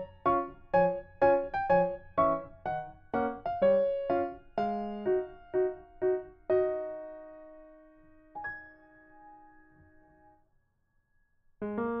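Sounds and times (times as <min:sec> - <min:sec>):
light piano music: 0:00.0 - 0:10.4, 0:11.6 - 0:12.0.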